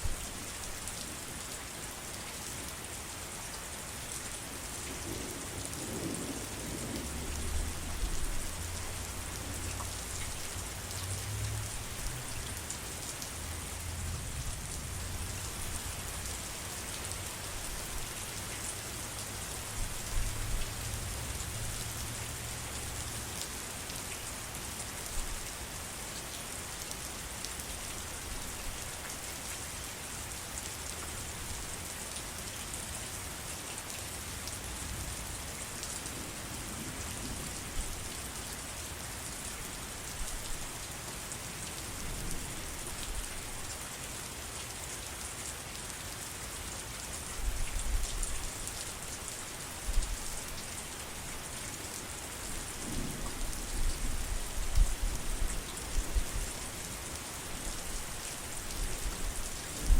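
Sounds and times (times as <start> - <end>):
heavy rain falling: 3.7 - 59.9.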